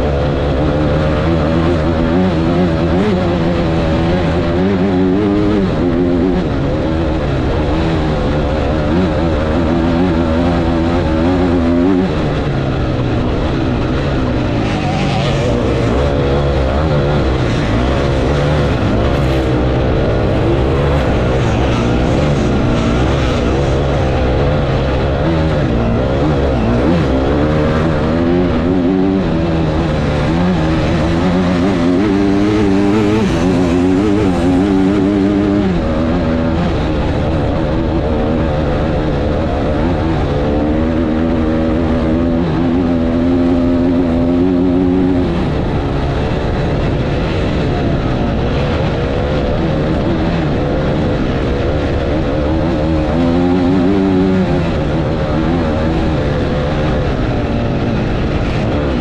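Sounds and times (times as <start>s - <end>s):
off-road motorcycle engine revving: 0.0s - 59.0s.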